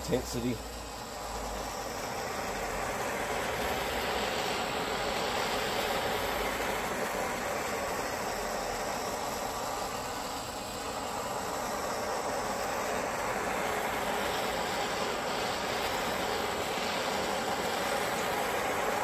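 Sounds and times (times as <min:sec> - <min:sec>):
propane torch hissing: 0:00.0 - 0:19.0.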